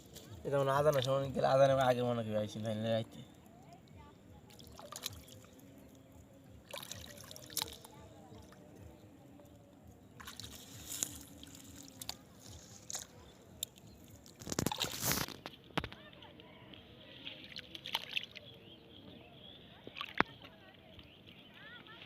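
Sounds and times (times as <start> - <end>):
water sloshing and splashing: 0.0 - 1.8, 3.4 - 18.6, 19.7 - 22.0.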